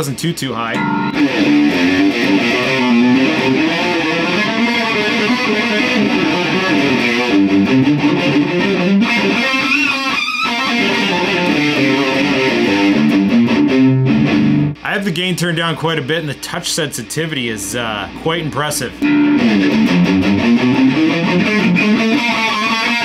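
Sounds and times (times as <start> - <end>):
distorted electric guitar: 0.0 - 23.0.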